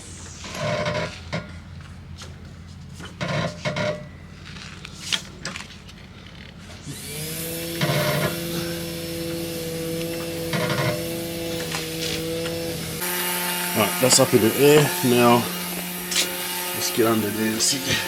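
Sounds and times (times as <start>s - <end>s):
electric lift motor humming: 0.0s - 18.0s.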